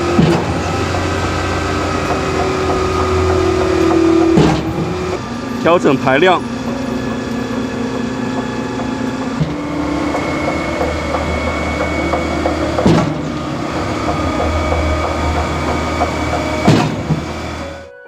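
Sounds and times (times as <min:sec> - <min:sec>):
concrete pump engine and hydraulic hum: 0:00.0 - 0:17.9.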